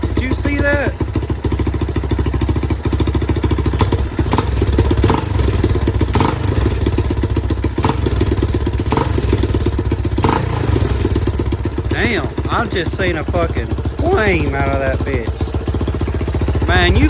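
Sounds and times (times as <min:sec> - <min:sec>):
dirt bike engine fast idle: 0:00.0 - 0:17.0
engine popping: 0:00.0 - 0:17.0.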